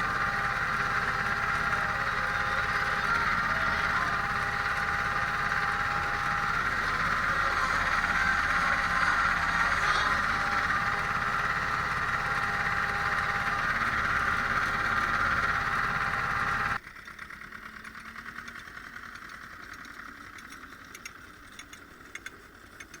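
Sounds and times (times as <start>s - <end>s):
light engine ticking: 0.0s - 23.0s
tractor diesel engine running: 0.0s - 23.0s.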